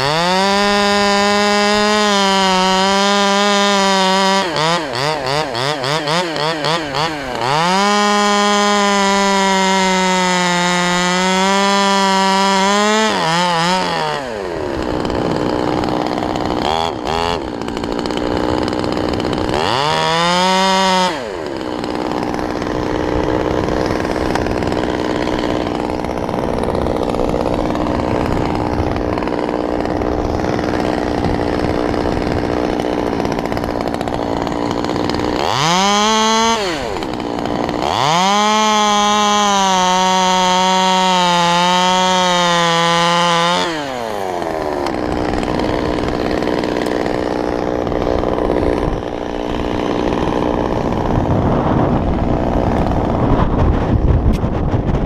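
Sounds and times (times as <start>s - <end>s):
chainsaw running: 0.0s - 55.0s.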